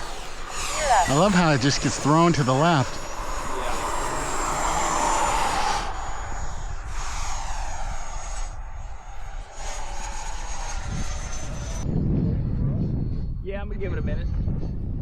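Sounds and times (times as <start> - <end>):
model jet fan whine: 0.0 - 15.0
rushing air noise: 0.0 - 15.0.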